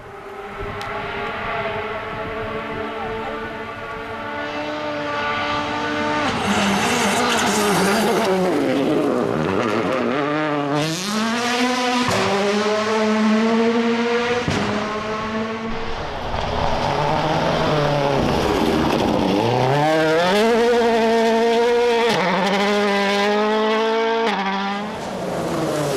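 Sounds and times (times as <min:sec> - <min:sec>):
rally car engine revving hard: 0:01.0 - 0:25.9.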